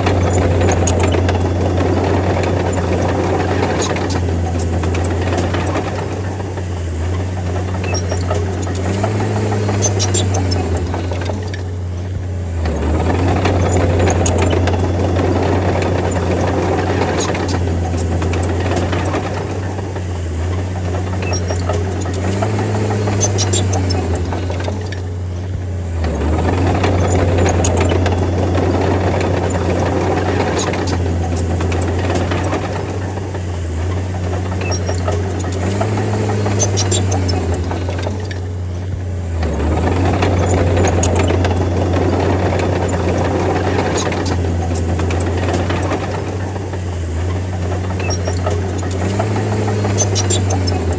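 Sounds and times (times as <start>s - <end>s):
bulldozer diesel engine running: 0.0s - 50.9s
metallic clanks and rattles: 0.0s - 50.9s.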